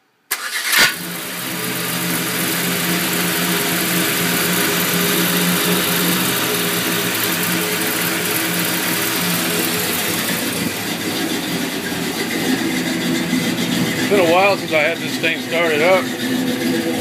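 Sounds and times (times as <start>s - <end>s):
truck engine idling: 0.4s - 17.0s.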